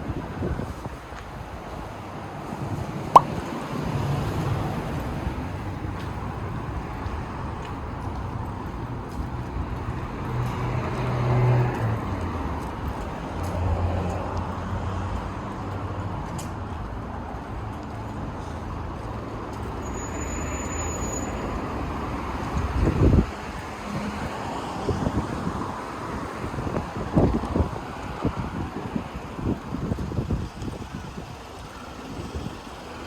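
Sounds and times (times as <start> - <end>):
vehicle and road noise: 0.0 - 33.0.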